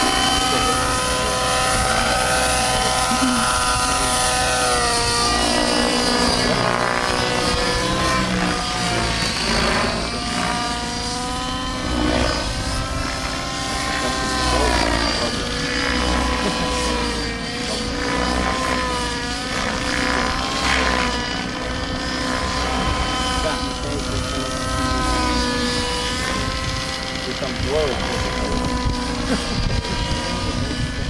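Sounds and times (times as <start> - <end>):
model helicopter motor and rotor whine: 0.0 - 31.0.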